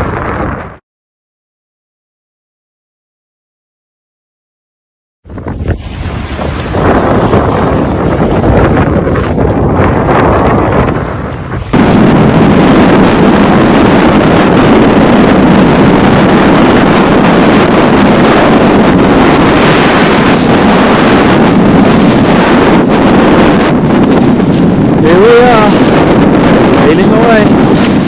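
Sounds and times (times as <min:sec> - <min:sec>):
wind buffeting microphone: 0:00.0 - 0:00.8, 0:05.3 - 0:28.0.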